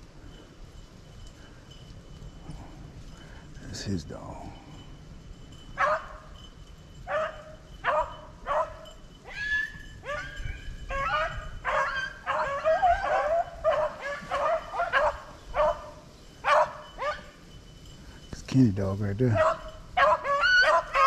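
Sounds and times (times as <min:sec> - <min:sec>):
beagles baying: 0:01.2 - 0:18.3, 0:19.0 - 0:21.0.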